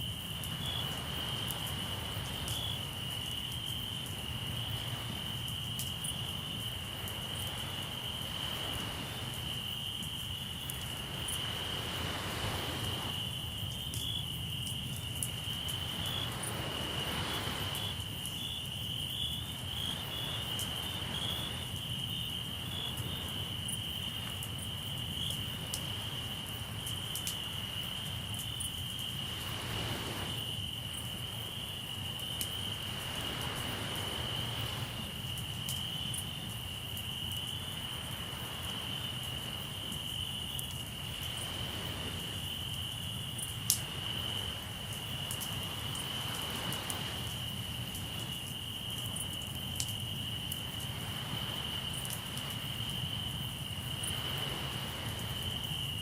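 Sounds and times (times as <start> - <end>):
campfire crackling: 0.0 - 56.0
crickets trilling: 0.0 - 56.0
waves washing ashore: 0.0 - 56.0.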